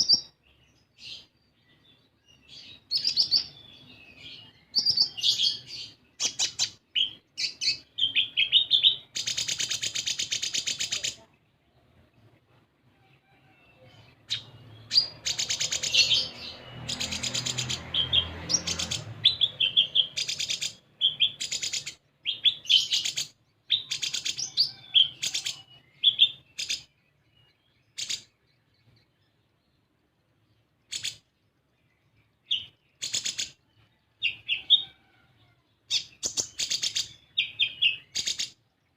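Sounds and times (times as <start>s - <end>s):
bird chirps and buzzy trills: 0.0s - 13.2s, 14.0s - 35.0s, 35.7s - 38.9s.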